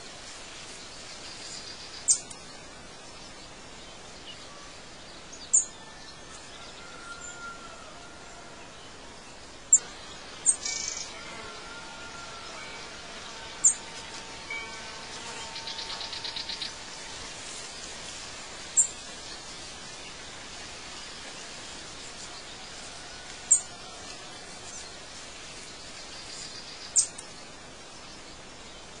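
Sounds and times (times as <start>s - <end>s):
birds chirping: 0.0s - 29.0s
steady hiss: 0.0s - 29.0s.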